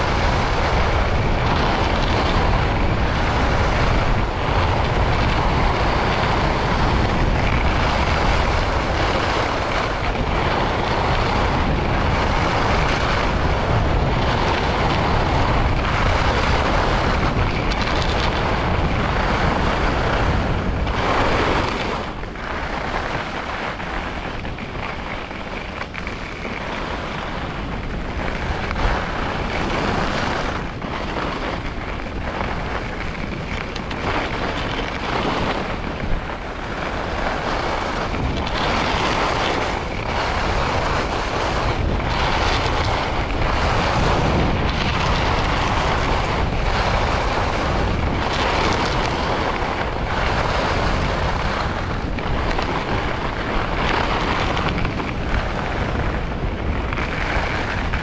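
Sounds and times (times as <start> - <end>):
skis scraping snow: 0.0 - 58.0
wind on microphone: 0.0 - 58.0.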